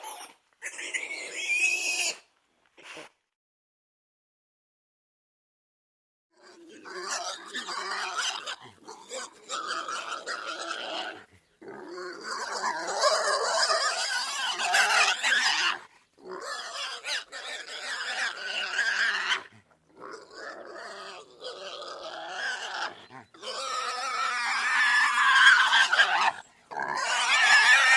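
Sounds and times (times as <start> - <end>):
pigs vocalising: 0.0 - 3.0, 6.4 - 27.9.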